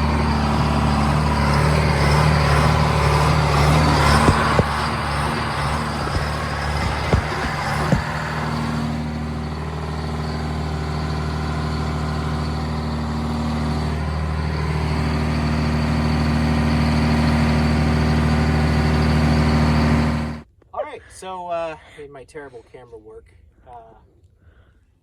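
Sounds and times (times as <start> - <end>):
excavator diesel engine running: 0.0 - 20.4.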